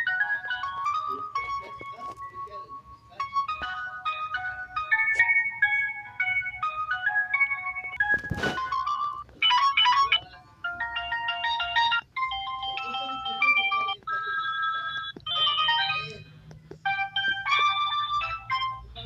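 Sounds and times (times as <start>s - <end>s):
phone ringtone melodies: 0.0s - 19.0s.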